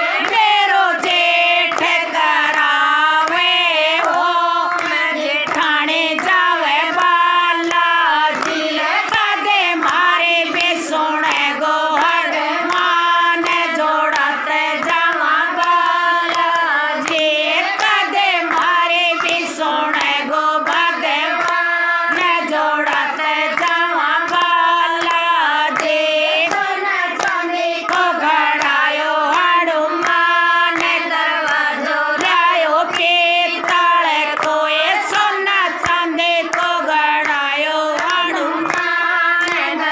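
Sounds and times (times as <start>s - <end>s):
hands clapping in time: 0.0s - 39.9s
women singing devotional song: 0.0s - 39.9s.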